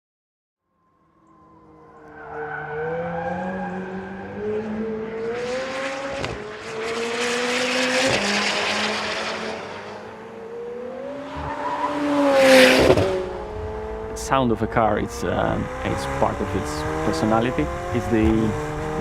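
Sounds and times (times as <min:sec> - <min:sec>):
car engine revving: 0:01.2 - 0:19.0.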